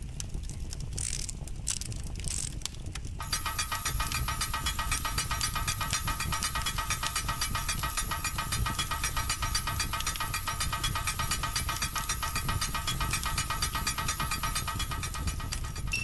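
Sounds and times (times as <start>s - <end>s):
low rumble of flames: 0.0s - 16.0s.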